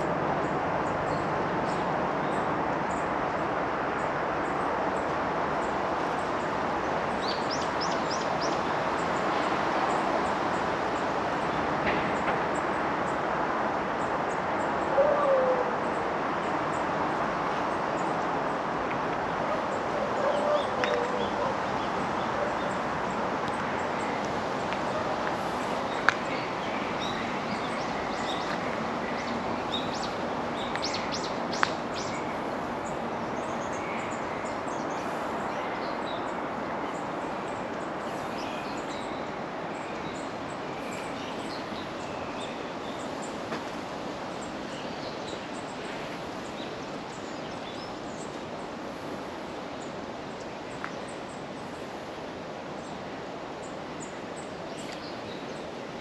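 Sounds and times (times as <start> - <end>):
steady wash of noise: 0.0 - 56.0.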